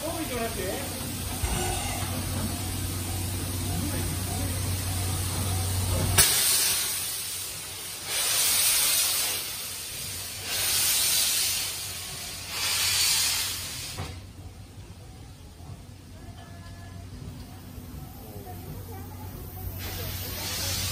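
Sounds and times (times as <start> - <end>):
steam locomotive hissing: 0.0 - 20.9.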